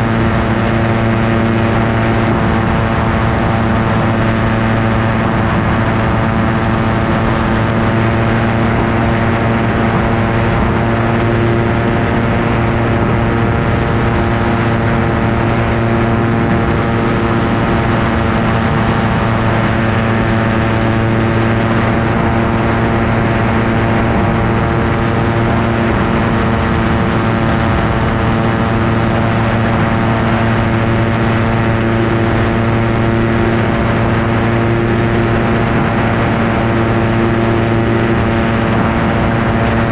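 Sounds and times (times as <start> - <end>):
ultralight aircraft engine droning: 0.0 - 39.9.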